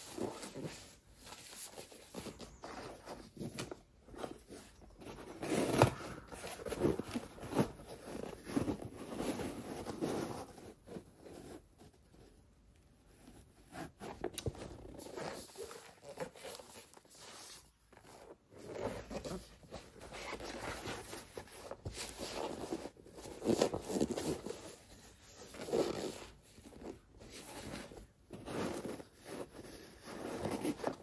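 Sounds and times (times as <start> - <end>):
shoes rustling and scraping: 0.0 - 11.8, 13.7 - 31.0.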